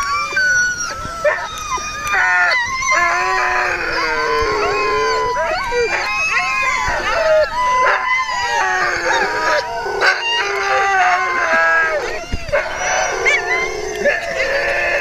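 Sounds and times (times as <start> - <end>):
sled dogs howling and yelping: 0.0 - 15.0.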